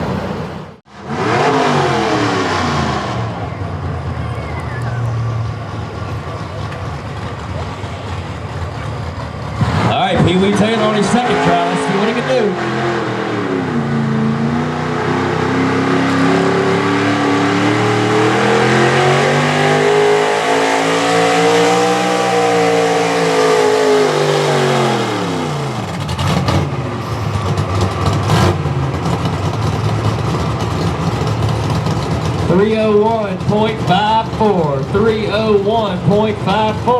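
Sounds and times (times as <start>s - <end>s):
truck engine at high revs: 0.0s - 36.9s.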